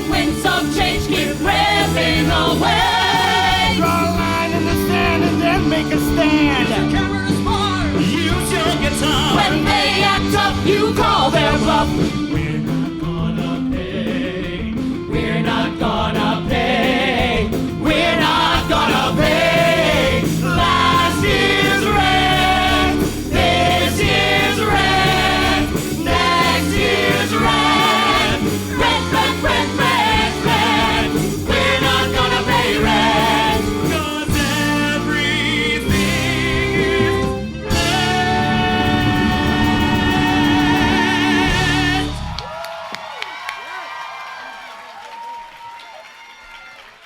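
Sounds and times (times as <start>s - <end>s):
live band playing: 0.0s - 42.4s
voices singing together: 0.0s - 42.4s.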